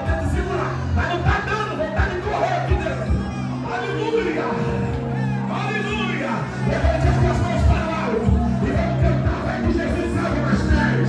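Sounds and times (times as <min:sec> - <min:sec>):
worship band music: 0:00.0 - 0:11.0.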